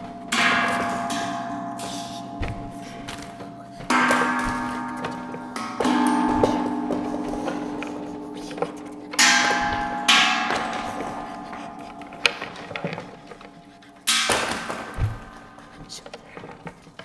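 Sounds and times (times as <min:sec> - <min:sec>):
struck metal percussion ringing: 0:00.0 - 0:15.8.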